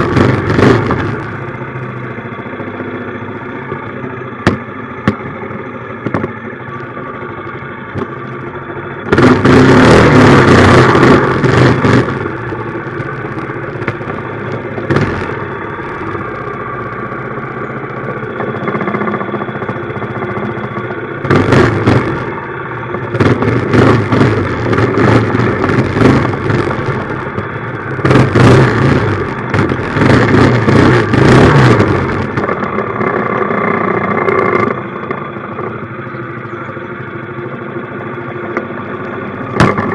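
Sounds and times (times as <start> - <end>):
small engine idling and revving: 0.0 - 39.9.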